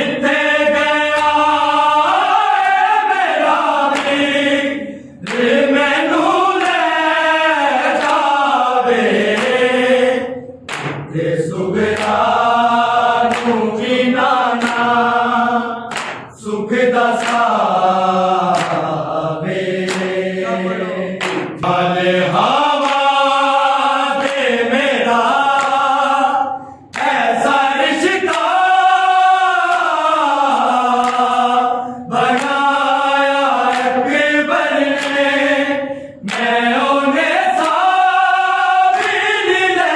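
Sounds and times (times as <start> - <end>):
men singing together: 0.0 - 39.9.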